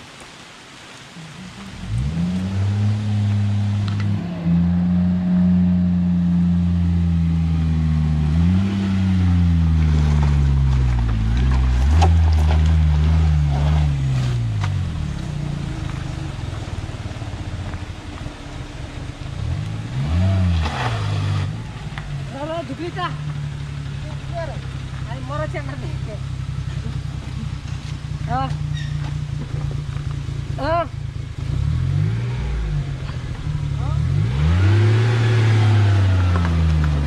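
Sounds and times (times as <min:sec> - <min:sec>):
van engine revving under load: 0:01.8 - 0:37.0.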